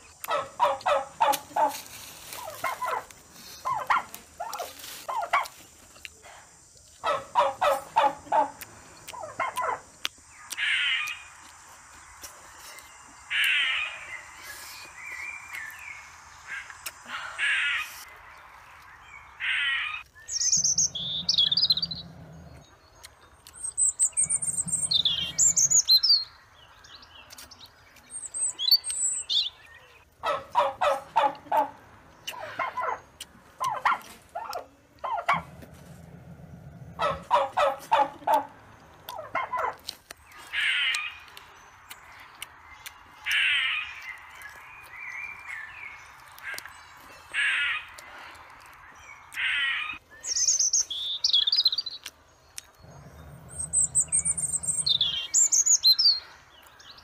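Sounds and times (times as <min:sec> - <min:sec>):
birds calling: 0:00.0 - 0:05.6, 0:07.0 - 0:57.0.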